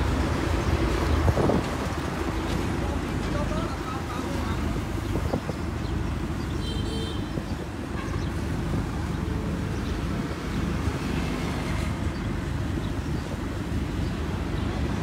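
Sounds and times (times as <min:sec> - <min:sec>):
passing street traffic: 0:00.0 - 0:15.0
vehicle engines idling: 0:00.0 - 0:15.0.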